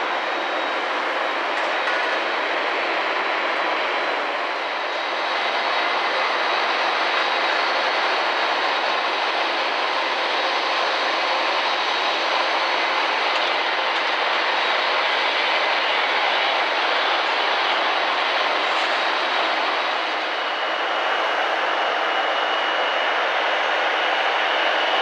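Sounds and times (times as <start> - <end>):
jet aircraft rushing hiss and whine: 0.0 - 25.0.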